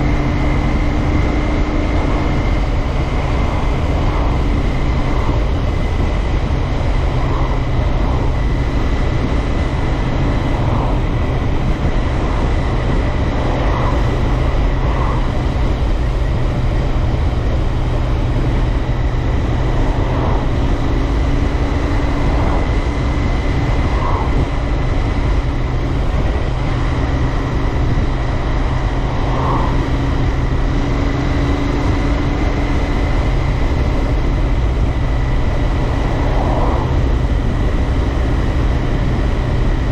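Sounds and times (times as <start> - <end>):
motorcycle engine cruising: 0.0 - 39.9
tire and wind noise on road: 0.0 - 39.9
wind on microphone: 0.0 - 39.9.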